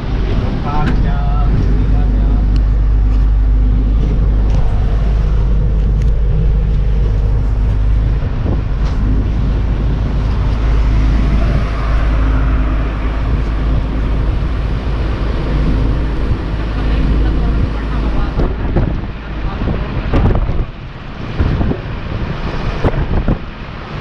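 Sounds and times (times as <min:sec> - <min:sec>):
road traffic noise: 0:00.0 - 0:24.0
vehicle engine rumbling: 0:00.0 - 0:24.0.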